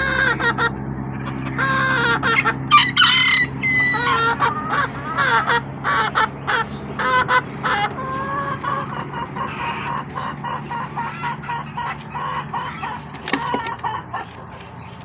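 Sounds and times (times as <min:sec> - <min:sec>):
many birds calling: 0:00.0 - 0:15.0
steady low hum: 0:00.0 - 0:15.0.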